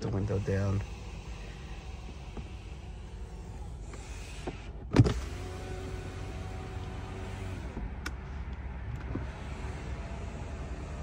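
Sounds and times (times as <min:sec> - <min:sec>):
window motor humming: 0:00.0 - 0:08.0, 0:09.1 - 0:11.0.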